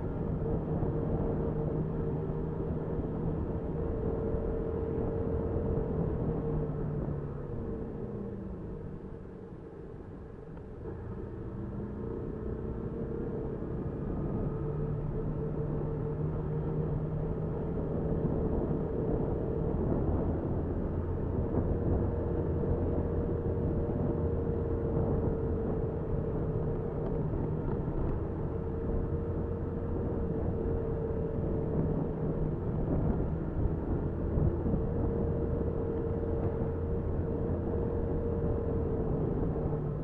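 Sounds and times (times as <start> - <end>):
motorcycle engine running steadily: 0.0 - 40.0
wind and road noise: 0.0 - 40.0.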